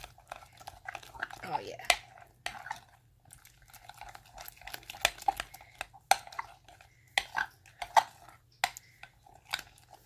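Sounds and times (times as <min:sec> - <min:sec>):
utensil scraping bowl: 0:00.0 - 0:10.0.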